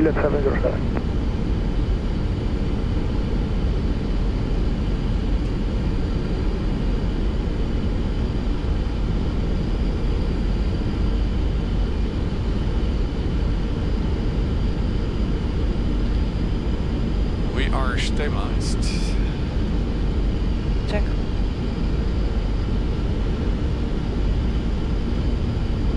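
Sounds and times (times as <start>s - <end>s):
airflow and engines rumbling: 0.0s - 25.9s.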